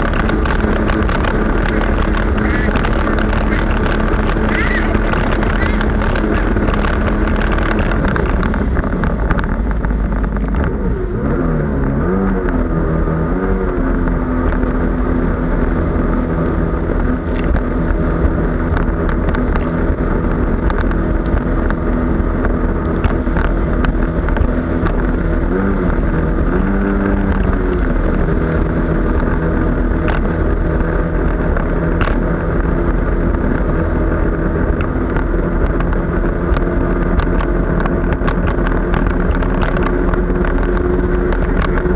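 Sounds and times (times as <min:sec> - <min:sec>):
jet ski engine revving: 0:00.0 - 0:41.9
low rumble: 0:00.0 - 0:41.9
wind on microphone: 0:00.0 - 0:41.9.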